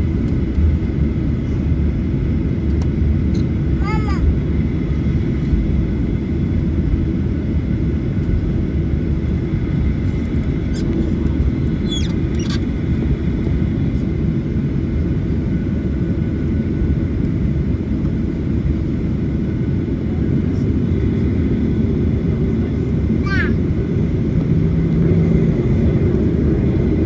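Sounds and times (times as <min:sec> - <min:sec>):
airliner engines and airflow rumble: 0:00.0 - 0:27.0.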